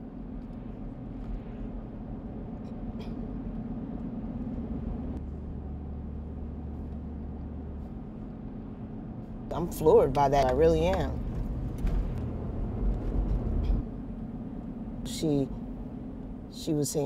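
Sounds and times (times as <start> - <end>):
car driving rumble: 0.0 - 17.0
engine drone: 0.0 - 17.0.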